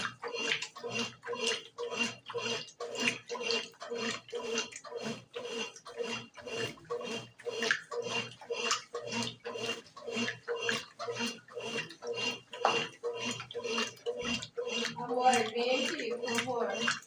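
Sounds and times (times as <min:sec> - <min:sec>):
washing machine agitating: 0:00.0 - 0:17.0.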